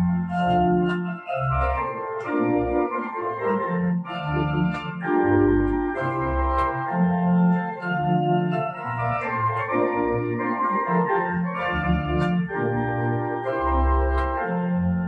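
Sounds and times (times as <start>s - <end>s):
organ music: 0.0s - 15.0s.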